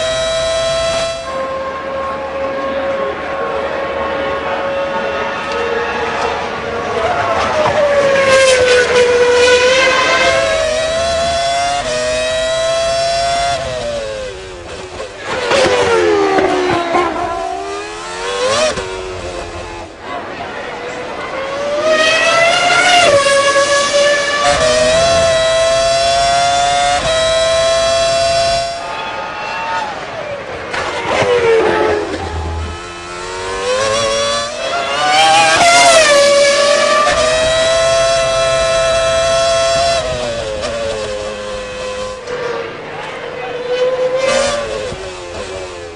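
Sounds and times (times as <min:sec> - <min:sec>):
racing car engine at high revs: 0:00.0 - 0:28.8, 0:30.5 - 0:45.9.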